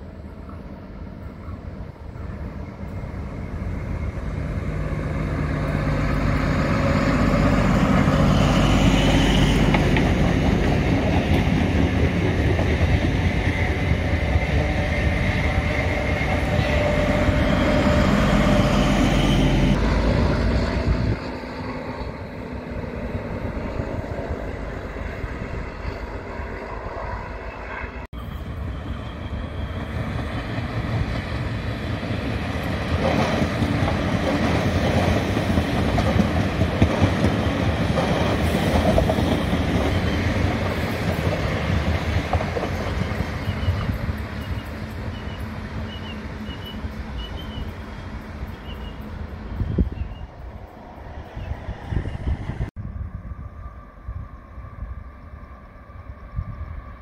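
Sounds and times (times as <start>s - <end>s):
distant train: 0.0s - 57.0s
train engine rumble: 0.0s - 57.0s.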